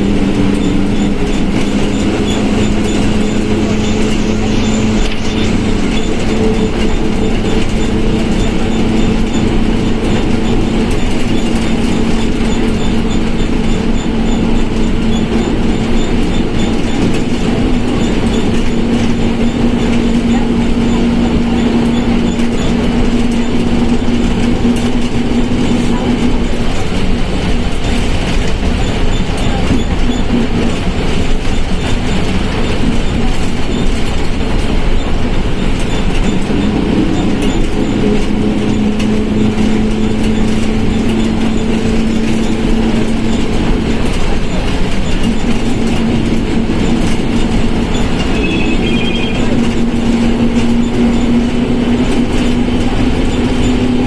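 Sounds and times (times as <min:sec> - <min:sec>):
bus engine and road noise: 0:00.0 - 0:54.0
transmission whine: 0:00.0 - 0:54.0.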